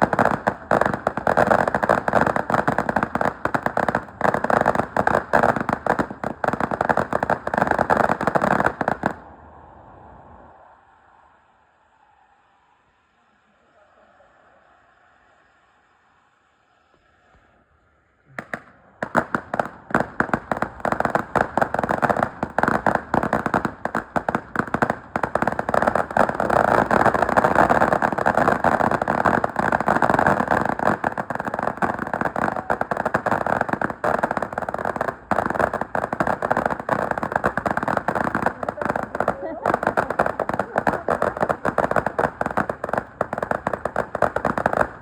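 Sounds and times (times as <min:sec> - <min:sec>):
fireworks crackling: 0:00.0 - 0:45.0.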